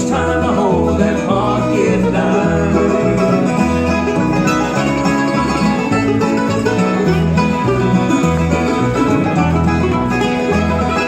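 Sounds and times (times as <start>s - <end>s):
banjo: 0.0s - 11.0s
guitar: 0.0s - 11.0s.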